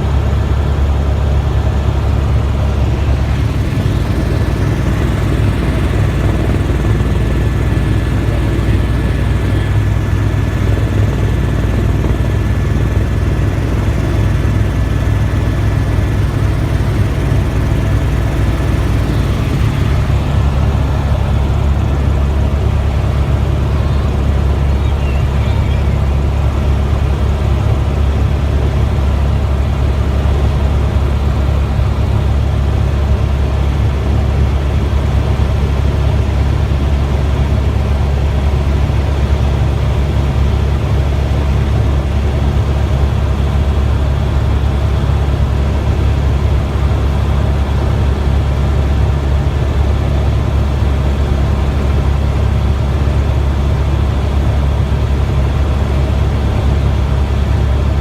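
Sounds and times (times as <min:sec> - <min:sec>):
helicopter rotor drone: 0:00.0 - 0:58.0.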